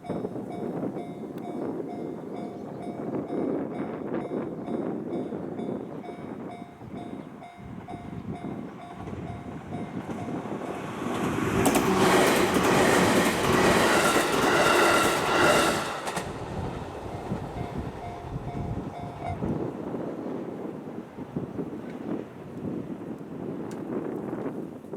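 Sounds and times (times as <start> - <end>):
train passing: 0.0 - 23.7.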